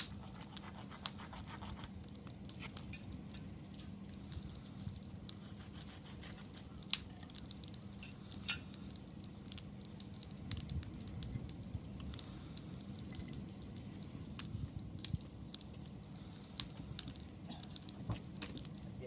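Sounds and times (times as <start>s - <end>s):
campfire crackling and popping: 0.0s - 19.0s
low rumble of flame: 0.0s - 19.0s.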